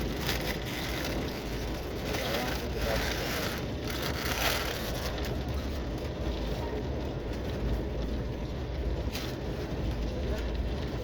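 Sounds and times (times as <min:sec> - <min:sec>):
train rumbling inside coach: 0:00.0 - 0:11.0.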